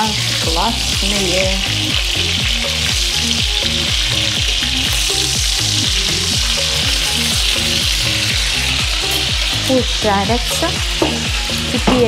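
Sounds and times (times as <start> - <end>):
background music: 0.0 - 12.0
food sizzling in hot oil: 0.0 - 12.0.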